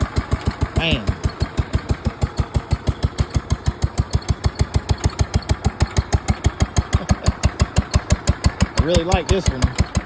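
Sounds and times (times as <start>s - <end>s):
lawn tractor engine idling: 0.0s - 10.0s.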